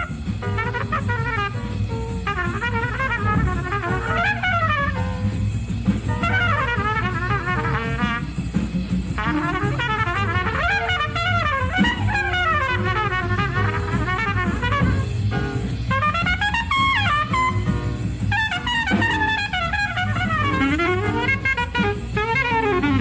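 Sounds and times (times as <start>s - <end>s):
bass: 0.0s - 23.0s
drums: 0.0s - 23.0s
jazz horn solo: 0.0s - 23.0s.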